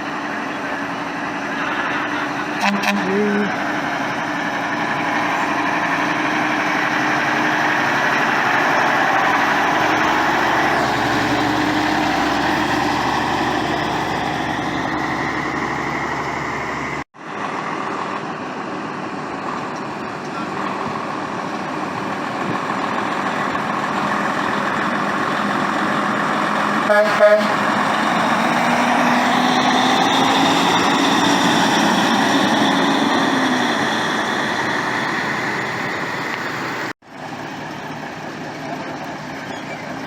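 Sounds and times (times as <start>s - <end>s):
heavy truck engines running: 0.0s - 40.0s.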